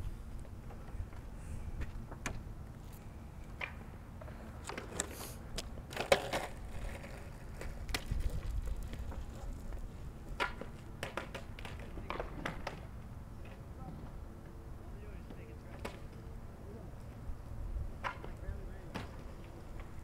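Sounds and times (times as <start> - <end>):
longboard wheels rolling on asphalt: 0.0 - 20.0.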